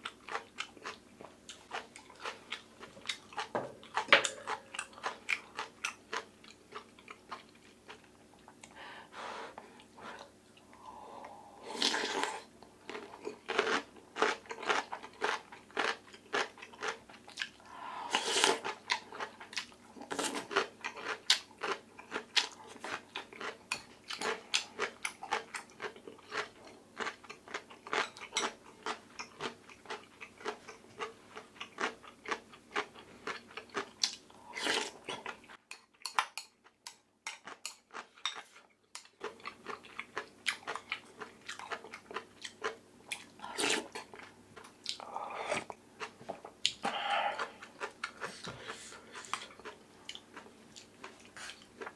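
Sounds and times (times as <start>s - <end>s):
chewing with crisp crunches: 0.0s - 8.7s, 10.5s - 17.6s, 18.2s - 51.9s.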